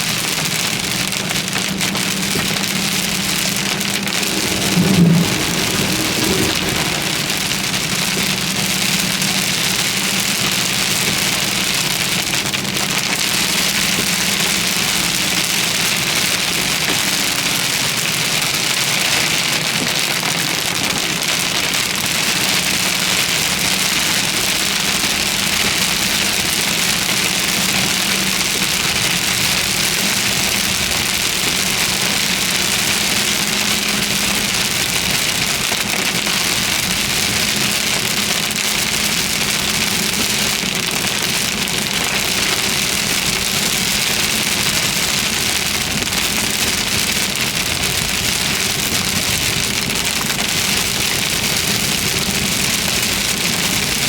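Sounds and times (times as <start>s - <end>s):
low engine hum: 0.0s - 54.0s
rain falling on a vehicle: 0.0s - 54.0s.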